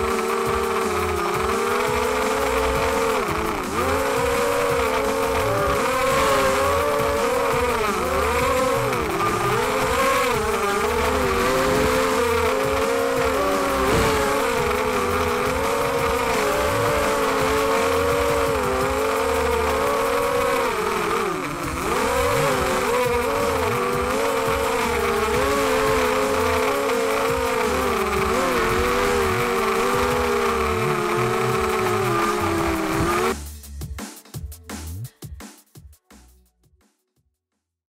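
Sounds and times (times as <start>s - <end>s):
quadcopter motors whining: 0.0s - 33.4s.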